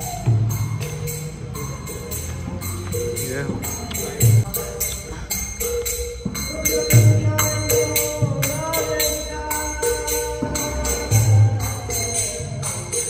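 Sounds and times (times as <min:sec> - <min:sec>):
hand cymbals jingling: 0:00.0 - 0:13.0.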